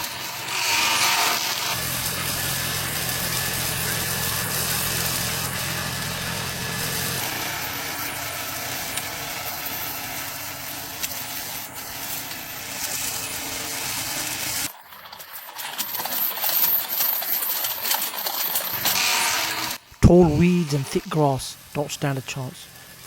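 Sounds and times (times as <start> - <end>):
robot lawn mower cutting grass: 0.1 - 19.8.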